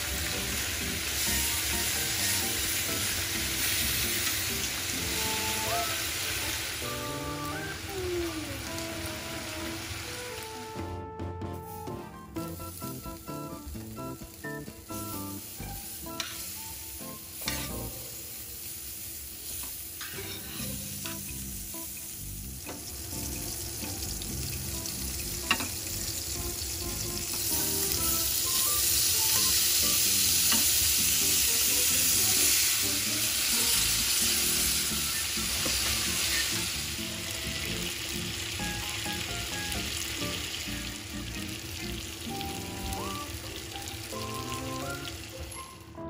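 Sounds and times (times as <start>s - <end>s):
food frying on sizzling plate: 0.0s - 10.9s, 11.6s - 45.8s
light background music: 0.0s - 18.4s, 20.2s - 46.0s.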